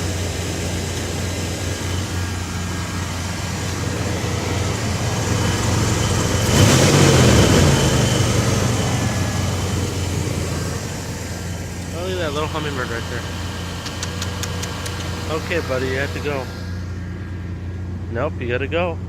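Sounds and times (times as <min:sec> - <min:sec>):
engine rushing swell: 0:00.0 - 0:18.5
car engine idling: 0:00.0 - 0:19.0.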